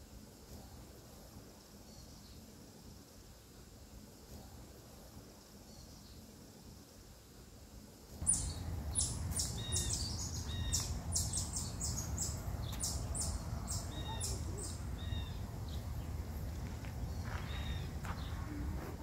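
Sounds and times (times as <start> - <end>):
low background noise: 0.0 - 19.0
small birds chirping: 1.4 - 7.6, 8.2 - 19.0.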